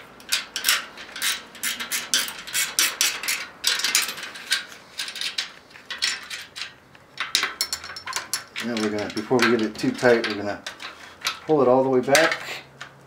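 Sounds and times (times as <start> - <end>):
ratcheting wrench clicking: 0.2 - 11.5.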